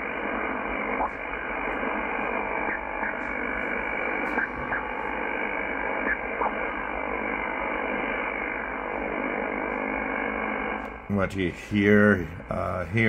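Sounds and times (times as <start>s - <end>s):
radio noise rush: 0.0s - 13.0s.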